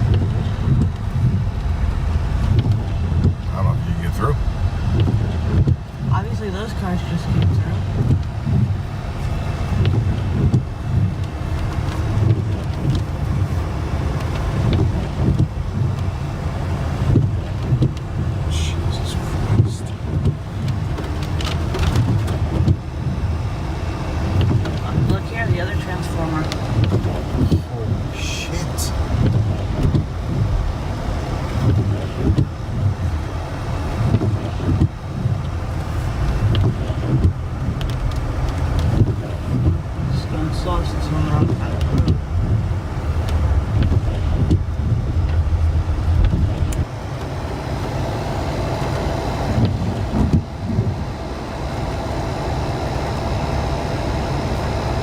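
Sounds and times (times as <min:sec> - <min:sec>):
wind buffeting microphone: 0:00.0 - 0:28.2, 0:28.8 - 0:55.0
car engine and road noise: 0:00.0 - 0:55.0.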